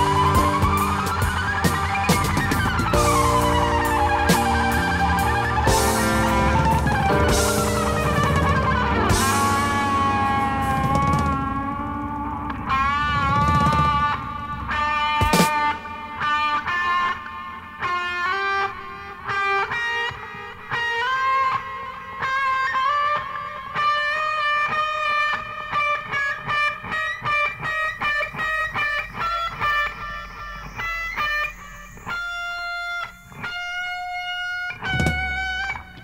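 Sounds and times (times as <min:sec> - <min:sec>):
electric guitar with effects: 0:00.0 - 0:36.0.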